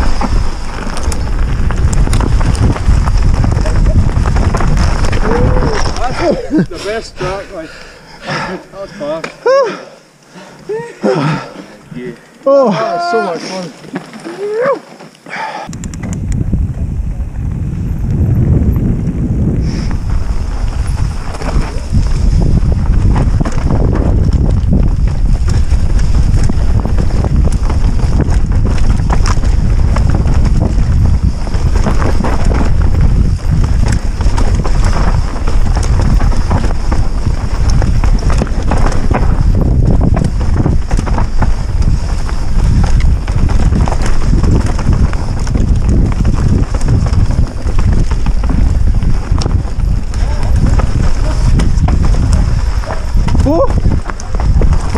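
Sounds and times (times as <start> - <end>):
bike rattling over bumps: 0.0 - 7.4, 13.5 - 54.9
tyres rolling on dirt: 0.0 - 9.4, 10.1 - 15.7, 16.6 - 54.9
wind rumble: 0.0 - 12.5, 15.4 - 54.9.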